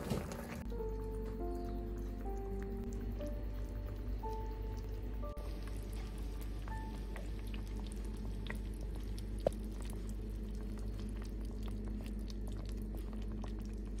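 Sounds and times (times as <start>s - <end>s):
steady low hum: 0.0s - 14.0s
sauce bubbling in a pot: 0.6s - 14.0s.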